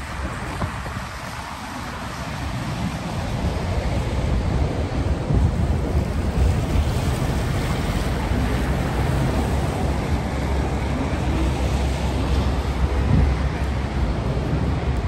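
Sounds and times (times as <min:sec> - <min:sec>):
traffic on wet pavement: 0:00.0 - 0:15.0
wind buffeting the microphone: 0:00.0 - 0:15.0.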